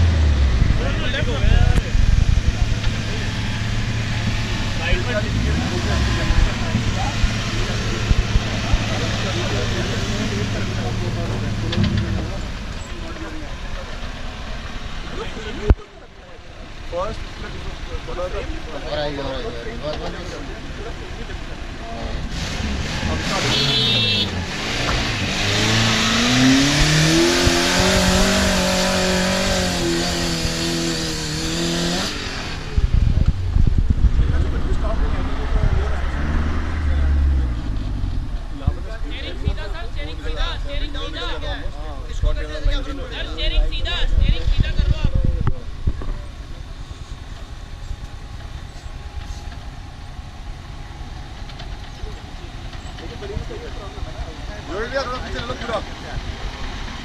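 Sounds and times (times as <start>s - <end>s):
off-road vehicle engine revving: 0.0s - 15.8s, 16.6s - 57.0s.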